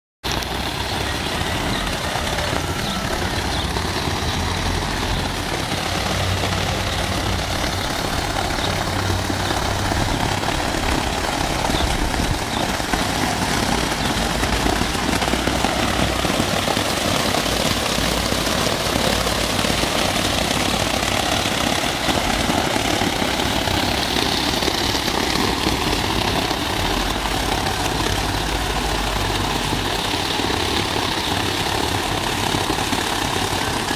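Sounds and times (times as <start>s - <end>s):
waterfall splashing into pool: 0.2s - 33.9s.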